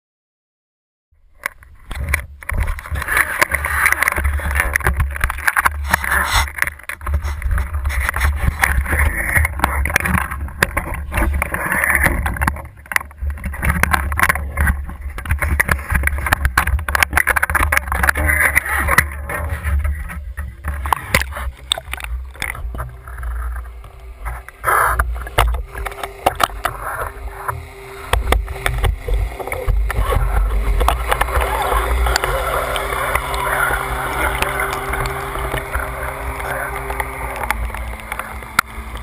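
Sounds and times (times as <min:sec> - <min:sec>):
boat low rumble: 0:01.2 - 0:39.0
scattered clicks and knocks: 0:01.3 - 0:39.0.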